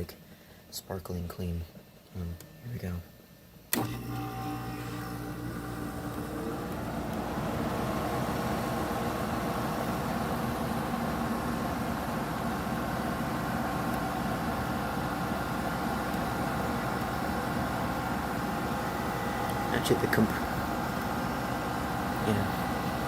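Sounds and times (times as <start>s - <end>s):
air conditioner humming: 0.0s - 23.0s
fan rushing: 3.7s - 23.0s.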